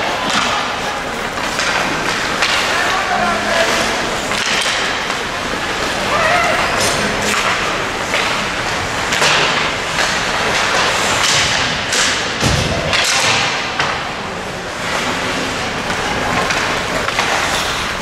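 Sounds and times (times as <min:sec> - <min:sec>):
skates scraping ice: 0:00.0 - 0:12.3, 0:14.7 - 0:18.0
sticks hitting puck: 0:00.0 - 0:14.1, 0:14.7 - 0:18.0.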